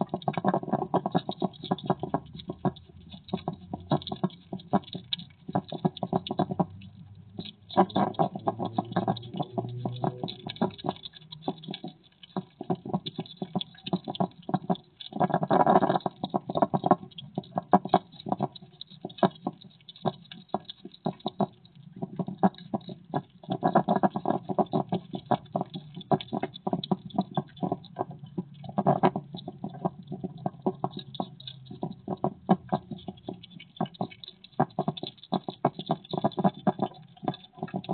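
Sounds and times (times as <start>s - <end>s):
hedgehog chewing and chomping: 0.0s - 37.9s.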